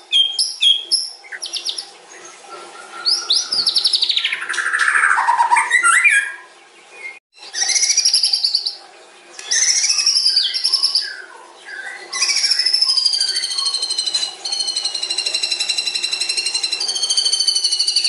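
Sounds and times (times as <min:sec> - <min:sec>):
bird singing trilled phrases: 0:00.0 - 0:18.0.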